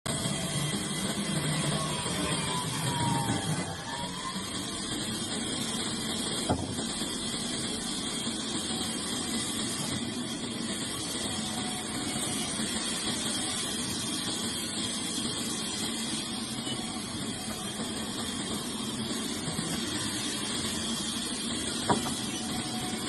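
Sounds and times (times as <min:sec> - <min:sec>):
woodworking machine humming: 0:00.1 - 0:23.0.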